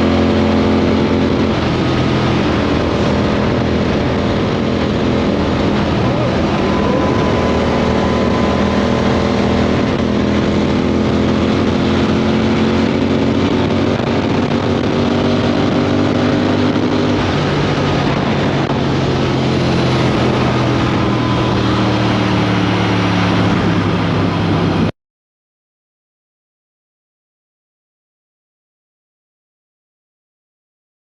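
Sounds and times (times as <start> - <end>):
motorcycle engine running hard: 0.0 - 24.9
wind rushing over microphone: 0.0 - 24.9.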